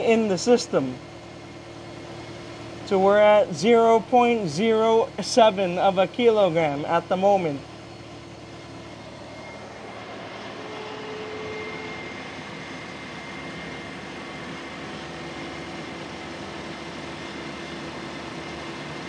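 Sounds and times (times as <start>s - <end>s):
faint constant whine: 0.0s - 19.0s.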